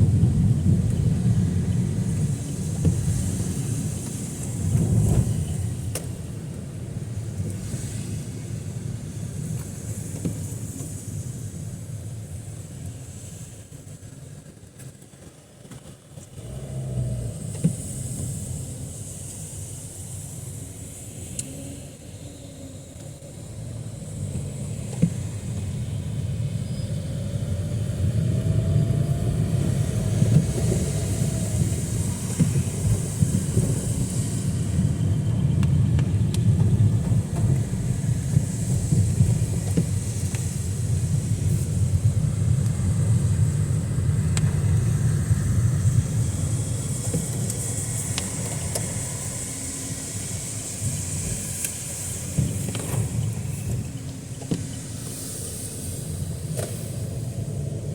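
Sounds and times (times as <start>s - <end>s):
tyre hiss on wet road: 0.0s - 57.9s
vehicle rumble: 0.0s - 57.9s.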